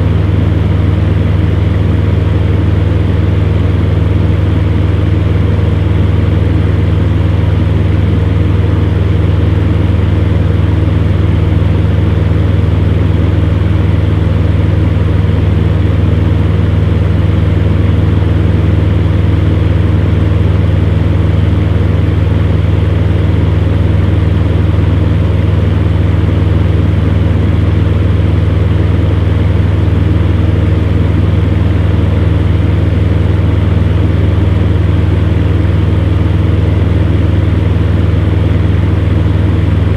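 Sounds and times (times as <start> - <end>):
fan heater blowing air: 0.0 - 39.9.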